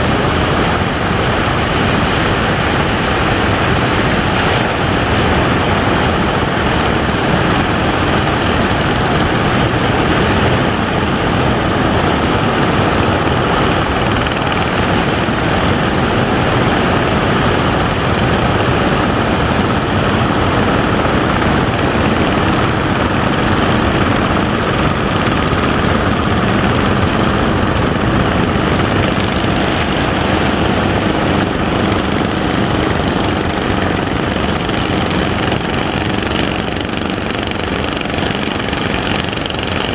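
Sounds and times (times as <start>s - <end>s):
surf: 0.0s - 39.9s
wind: 0.0s - 39.9s.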